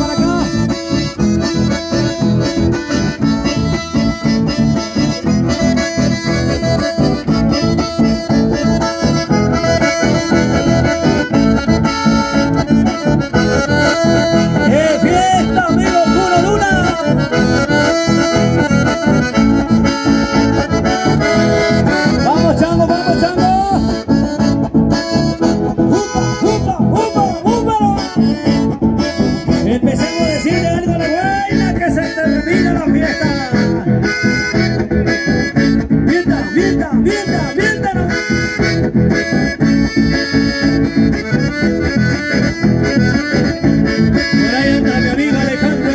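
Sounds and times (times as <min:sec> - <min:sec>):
button accordions: 0:00.0 - 0:45.9
strummed acoustic guitars: 0:00.0 - 0:45.9.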